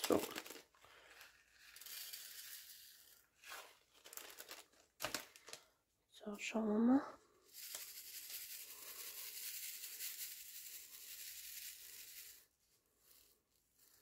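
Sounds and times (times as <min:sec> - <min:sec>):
plastic beads rattling in a tray: 0:00.0 - 0:05.7, 0:07.4 - 0:14.0.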